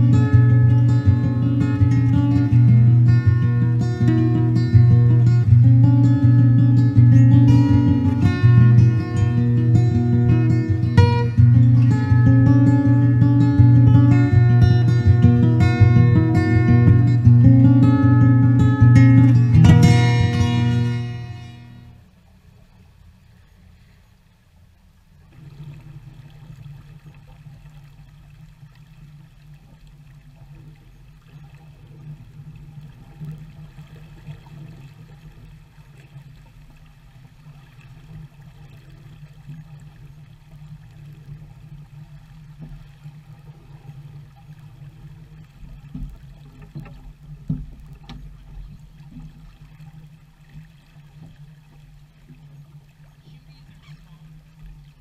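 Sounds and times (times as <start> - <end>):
water rushing: 0.0 - 55.0
wind: 0.0 - 55.0.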